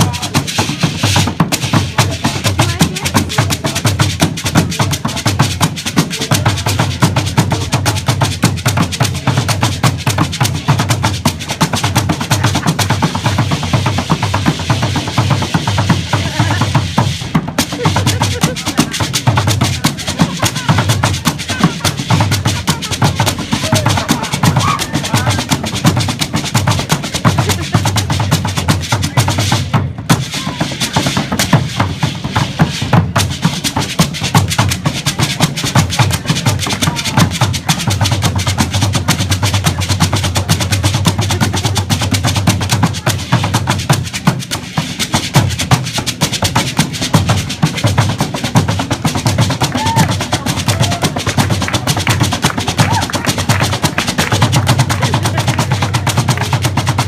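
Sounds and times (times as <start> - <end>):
rapid drum and wood-block strikes: 0.0 - 57.0.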